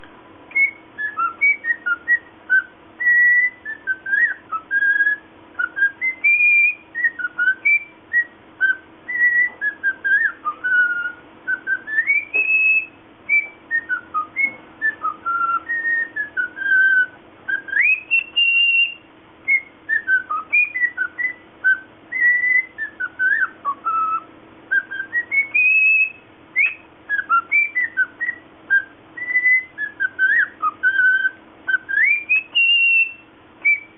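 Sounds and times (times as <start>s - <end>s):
cockatiel whistling: 0.0s - 33.9s
faint steady hum: 0.0s - 33.9s.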